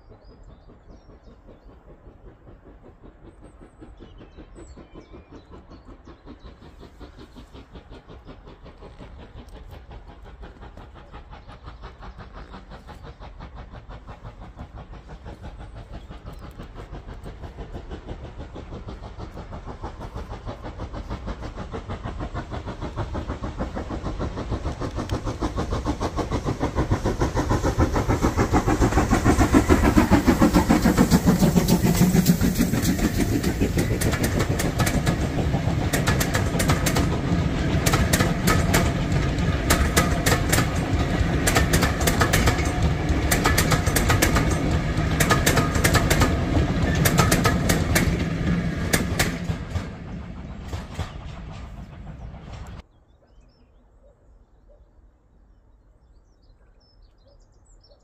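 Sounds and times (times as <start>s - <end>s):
train wheels clicking over rail joints: 0.0s - 52.8s
steam locomotive exhaust beats: 0.0s - 52.9s.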